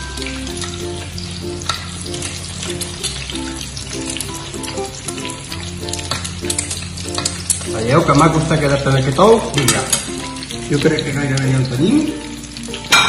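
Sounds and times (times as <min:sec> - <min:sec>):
background music: 0:00.0 - 0:13.0
egg frying in sizzling oil: 0:00.0 - 0:13.0.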